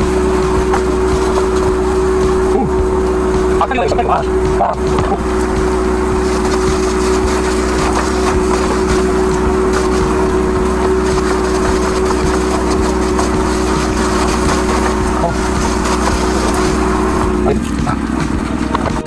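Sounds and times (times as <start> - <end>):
pump engine humming: 0.0 - 19.0
water spraying: 0.0 - 19.0.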